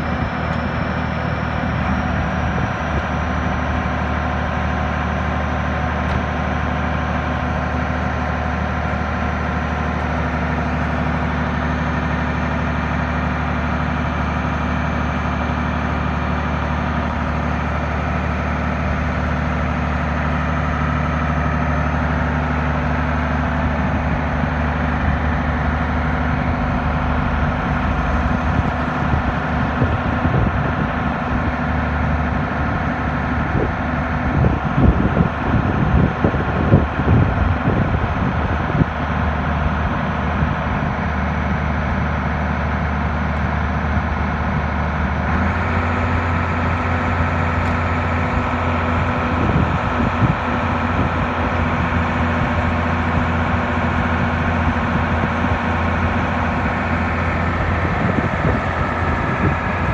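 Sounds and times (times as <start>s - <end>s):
diesel engine running: 0.0s - 59.9s
uneven low rumbles: 0.0s - 59.9s.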